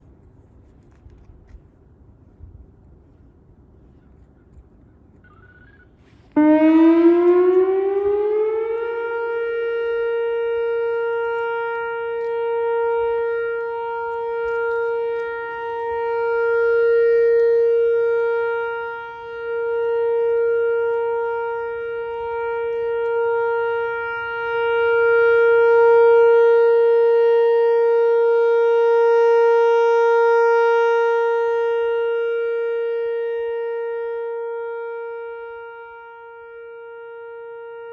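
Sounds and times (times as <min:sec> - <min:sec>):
electronic warning siren steady tone: 0:05.2 - 0:37.9.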